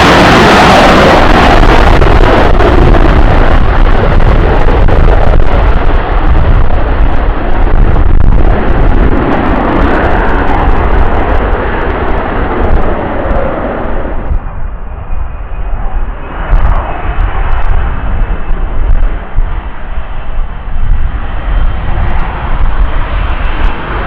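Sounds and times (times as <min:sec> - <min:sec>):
military jet engine roaring: 0:00.0 - 0:24.0.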